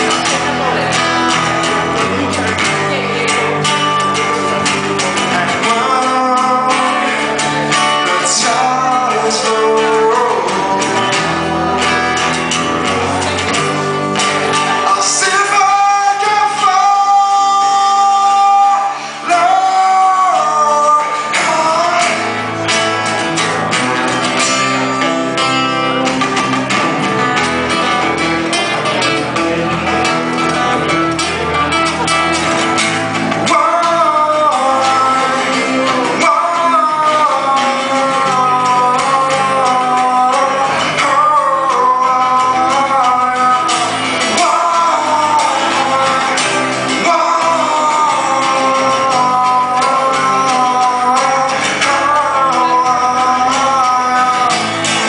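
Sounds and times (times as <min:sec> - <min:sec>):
acoustic guitars strumming: 0:00.0 - 0:55.0
electric bass: 0:00.0 - 0:55.0
man singing: 0:00.0 - 0:55.0.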